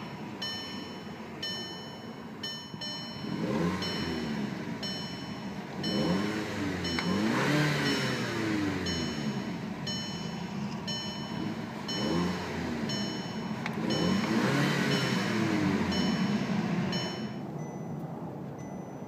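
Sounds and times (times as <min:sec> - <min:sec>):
car engine revving: 0:00.0 - 0:17.4
electronic warning chime: 0:00.0 - 0:18.0.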